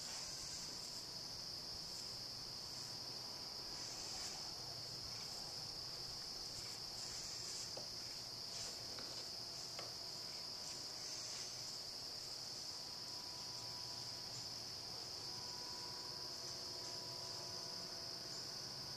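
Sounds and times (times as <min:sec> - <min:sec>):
insect chorus trilling: 0:00.0 - 0:18.9.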